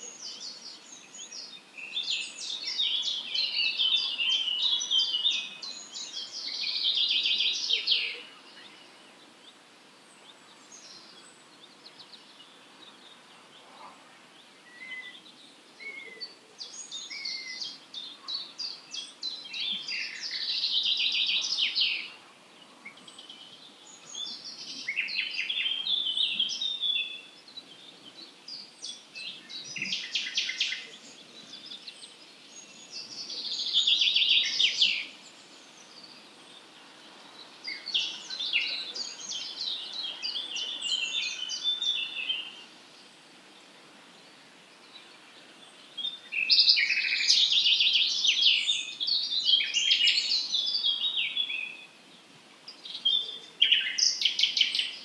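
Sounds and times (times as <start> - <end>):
faint outdoor background noise: 0.0 - 55.0
songbirds chirping and trilling: 0.0 - 55.0.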